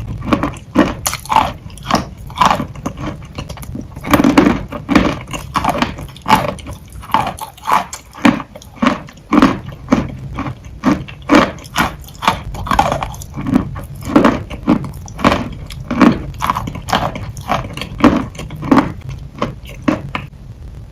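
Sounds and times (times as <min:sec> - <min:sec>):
wet chalk being chewed: 0:00.0 - 0:20.3.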